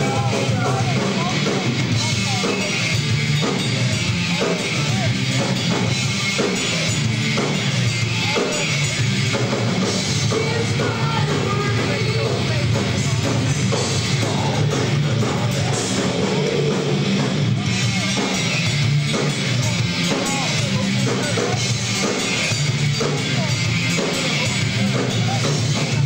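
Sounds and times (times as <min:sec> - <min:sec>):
live heavy metal band: 0:00.0 - 0:26.0.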